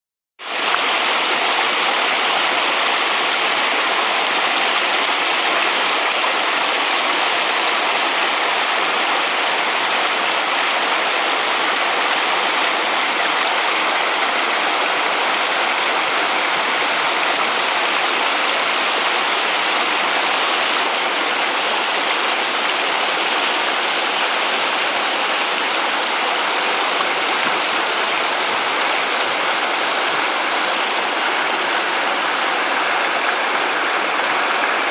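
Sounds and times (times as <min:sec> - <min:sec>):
stream rushing over rocks: 0:00.4 - 0:34.9.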